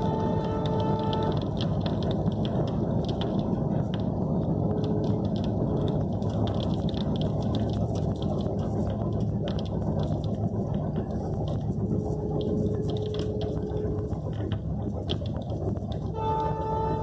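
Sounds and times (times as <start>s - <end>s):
train rumbling and clattering: 0.0s - 17.0s.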